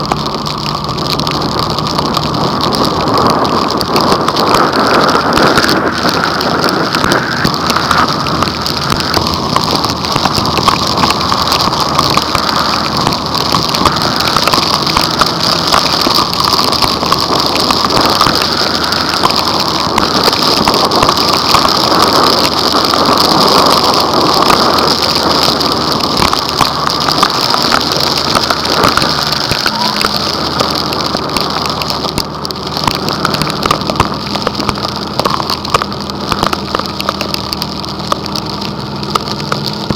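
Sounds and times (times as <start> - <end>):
heavy rain pelting a car: 0.0 - 39.9.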